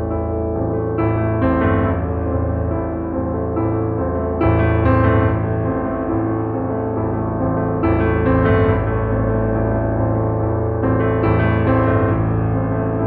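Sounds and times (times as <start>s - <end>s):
piano chords: 0.0s - 13.0s
sustained bass: 0.0s - 13.0s.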